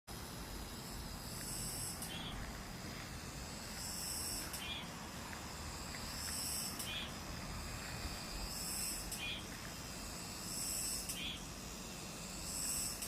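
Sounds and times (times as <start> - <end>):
cicada buzzing: 0.1 - 13.0.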